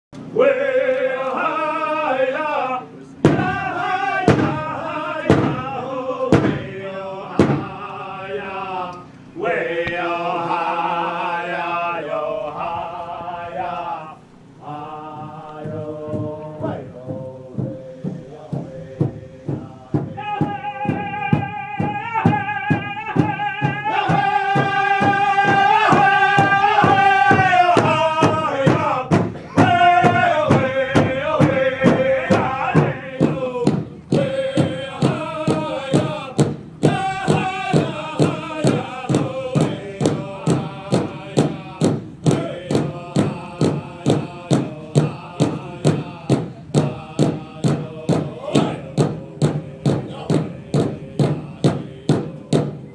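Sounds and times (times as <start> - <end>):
men chanting: 0.2 - 52.9
large drum beating: 3.2 - 8.0, 14.6 - 52.9.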